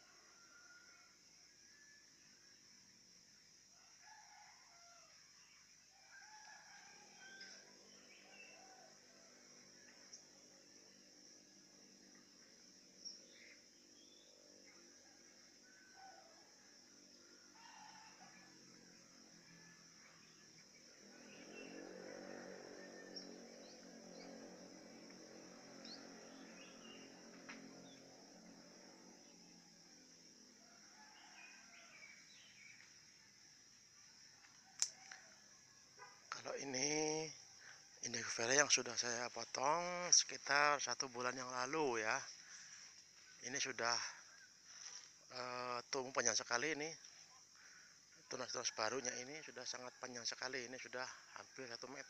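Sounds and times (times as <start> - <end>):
faint rooster crowing: 0.0 - 40.9, 41.6 - 52.0
high insect drone: 0.0 - 52.0.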